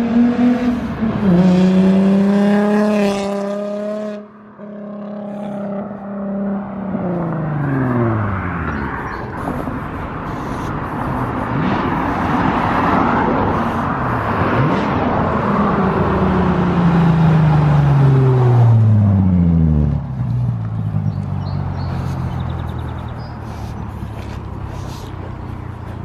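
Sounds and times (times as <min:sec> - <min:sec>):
car engine passing: 0:00.0 - 0:26.0.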